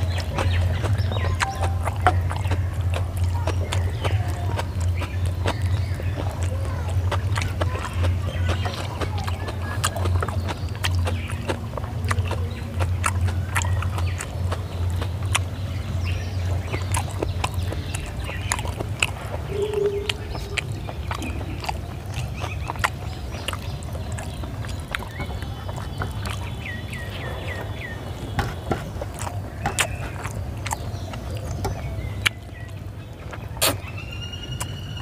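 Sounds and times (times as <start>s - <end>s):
chewing and lip smacking: 0.0s - 35.0s.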